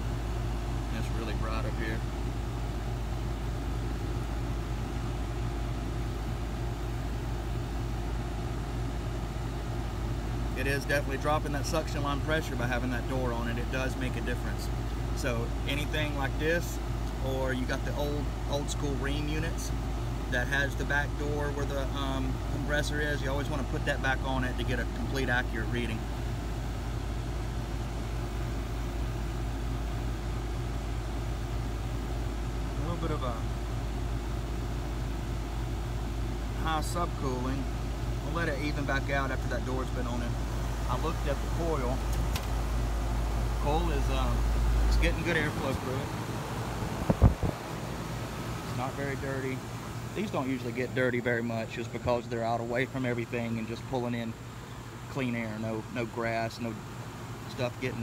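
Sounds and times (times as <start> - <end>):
compressor hum: 0.0 - 58.0
condenser fan rushing: 0.0 - 58.0.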